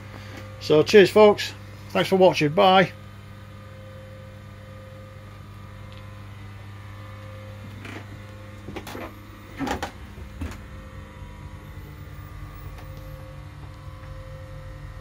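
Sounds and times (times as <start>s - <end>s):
lathe electric hum: 0.0s - 15.0s.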